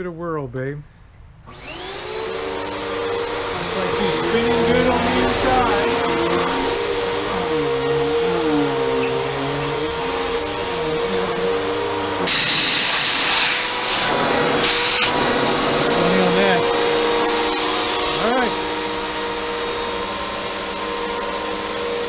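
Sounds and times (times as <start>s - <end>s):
vacuum cleaner running: 1.5s - 22.0s.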